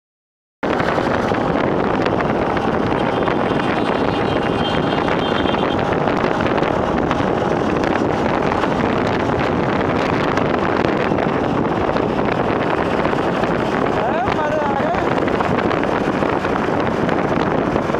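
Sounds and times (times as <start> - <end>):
road noise from traffic: 0.6 - 17.9
wind rush on microphone: 0.6 - 17.9.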